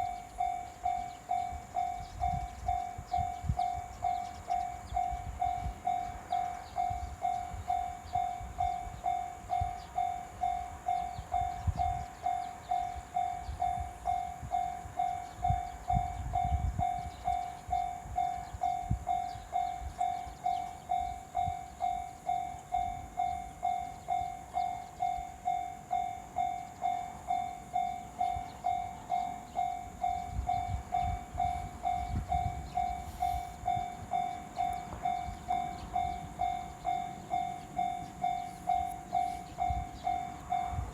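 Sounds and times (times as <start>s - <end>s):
level crossing warning bell: 0.0s - 40.9s.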